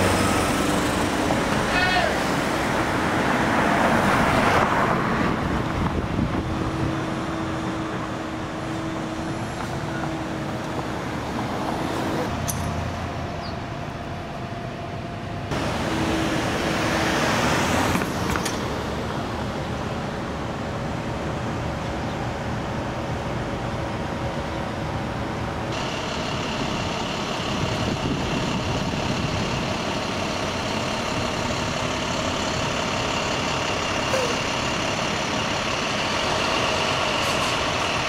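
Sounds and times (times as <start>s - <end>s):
city street traffic: 0.0s - 38.0s.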